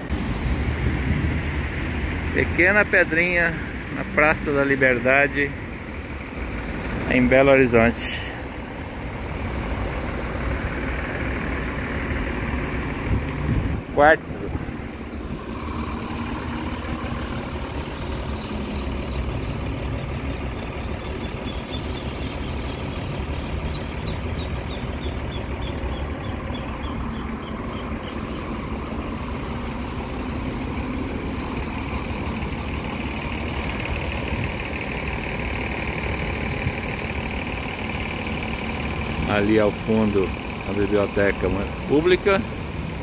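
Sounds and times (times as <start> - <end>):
car and truck engines passing: 0.0 - 43.0.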